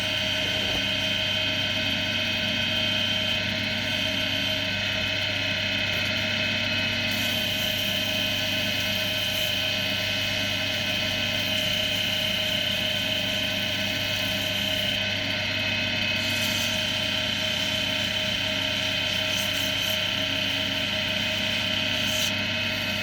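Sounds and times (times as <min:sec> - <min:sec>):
wood lathe motor hum and whine: 0:00.0 - 0:23.0.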